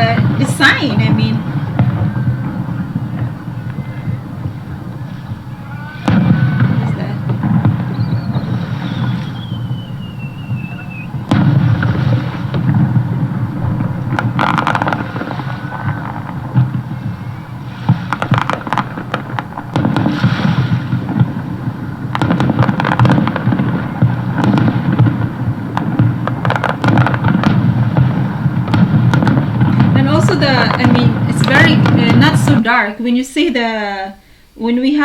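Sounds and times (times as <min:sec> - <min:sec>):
low rumble of booms: 0:00.0 - 0:32.6
fireworks crackling and banging: 0:00.0 - 0:33.7.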